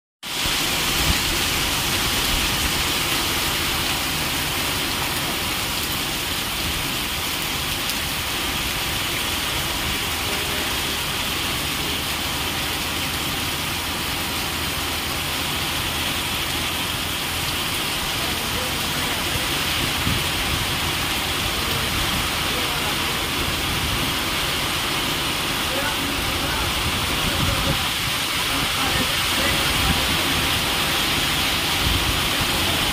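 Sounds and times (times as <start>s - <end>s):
heavy rain on wet ground: 0.2s - 32.9s.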